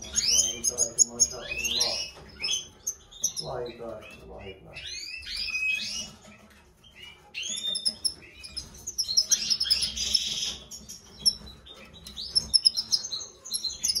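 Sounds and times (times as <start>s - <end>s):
goldfinch twittering song: 0.0s - 14.0s.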